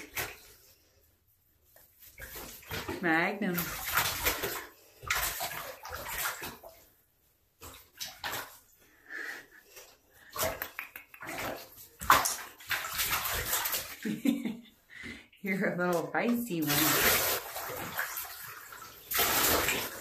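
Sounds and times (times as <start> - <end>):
bathwater splashing: 0.0 - 20.0.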